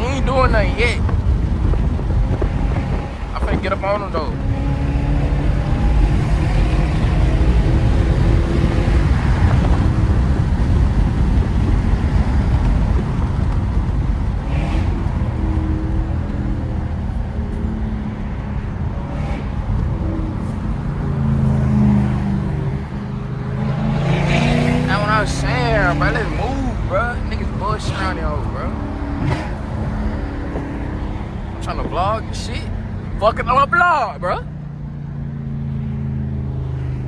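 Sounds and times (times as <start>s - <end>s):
loud car exhaust while driving: 0.0s - 37.0s.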